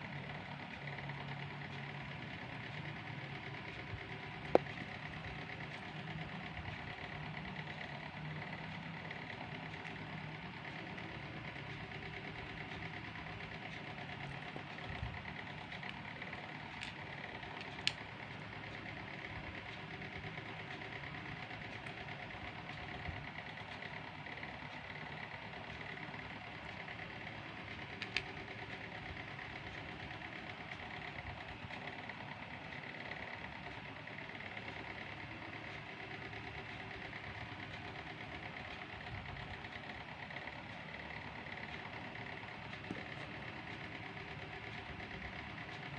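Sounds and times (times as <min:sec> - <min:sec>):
small motor humming: 0:00.0 - 0:45.9.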